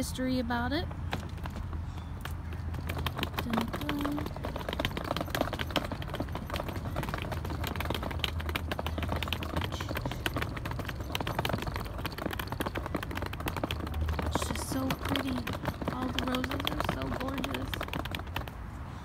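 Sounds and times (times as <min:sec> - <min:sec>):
suitcase wheels rattling over bricks: 0:00.1 - 0:18.6.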